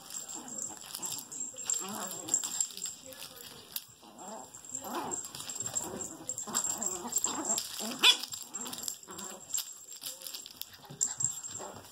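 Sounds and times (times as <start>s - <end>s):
small dogs play-growling: 0.1s - 3.0s, 4.0s - 11.9s.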